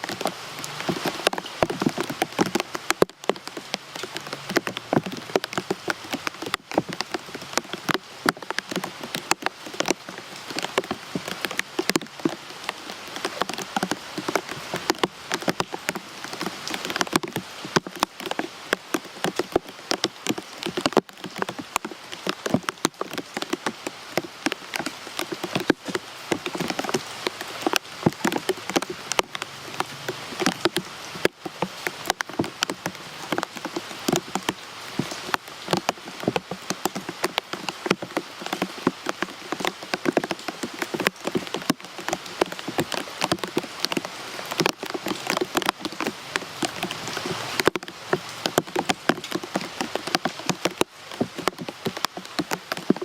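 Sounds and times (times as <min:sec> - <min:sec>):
sharp raindrop taps: 0:00.0 - 0:53.0
steady rain hissing: 0:00.0 - 0:53.0.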